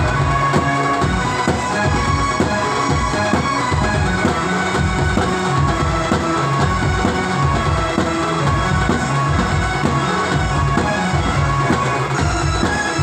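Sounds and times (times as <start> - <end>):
heavy drums: 0.0 - 13.0
keyboard melody: 0.0 - 13.0.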